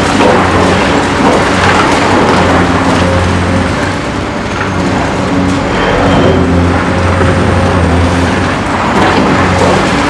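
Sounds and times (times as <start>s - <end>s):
excavator diesel engine: 0.0s - 10.0s.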